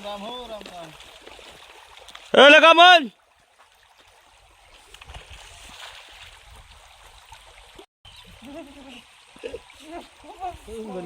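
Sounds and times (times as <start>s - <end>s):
faint water flowing in stream: 0.0s - 11.0s.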